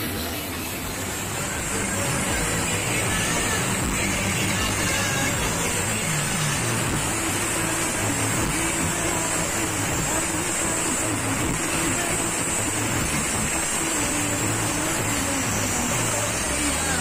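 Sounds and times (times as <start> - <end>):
crowd noise: 0.0 - 17.0
sound-system music with bass: 0.0 - 17.0.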